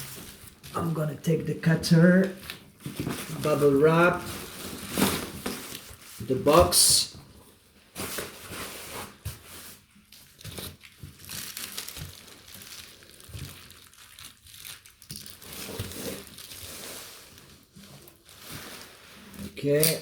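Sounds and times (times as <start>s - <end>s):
bubble wrap crinkling: 0.0s - 1.0s, 2.2s - 6.9s, 7.9s - 20.0s.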